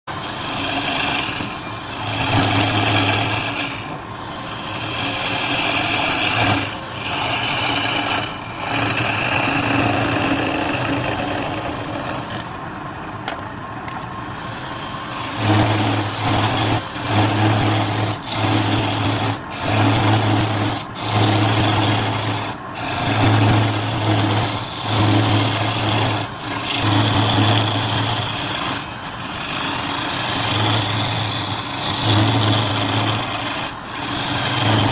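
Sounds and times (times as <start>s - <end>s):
turning tool scraping wood: 0.0s - 12.6s, 14.2s - 34.9s
wood lathe motor hum: 0.0s - 12.6s, 13.9s - 34.9s.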